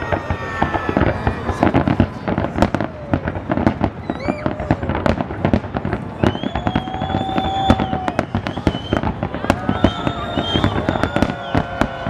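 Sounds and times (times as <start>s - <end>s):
fireworks bangs and crackling: 0.0s - 12.0s
high firework whistles: 0.0s - 12.0s.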